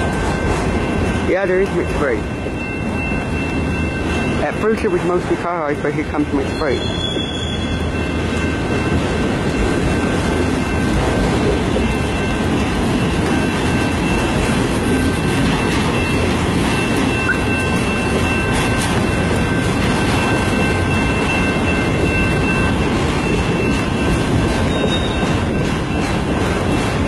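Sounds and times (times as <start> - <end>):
freight train wheels rumbling on rail: 0.0 - 27.0.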